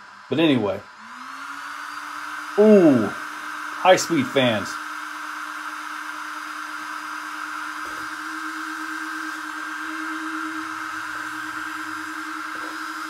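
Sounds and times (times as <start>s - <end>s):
cooling fans whirring: 0.0s - 13.0s.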